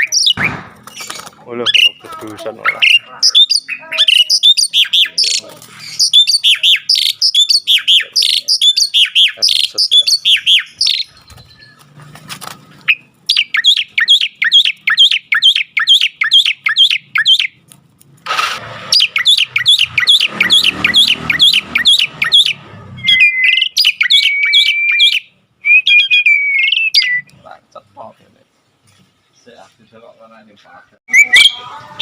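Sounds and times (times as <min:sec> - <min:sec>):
starling singing: 0:00.0 - 0:12.0, 0:12.7 - 0:17.6, 0:18.9 - 0:27.4, 0:31.1 - 0:32.0.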